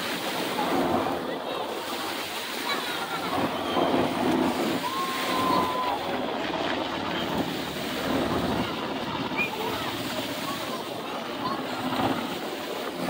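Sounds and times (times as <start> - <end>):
distant helicopter: 0.0 - 13.0
faint crowd voices: 0.0 - 13.0
surf: 0.0 - 13.0
wind on microphone: 0.0 - 13.0.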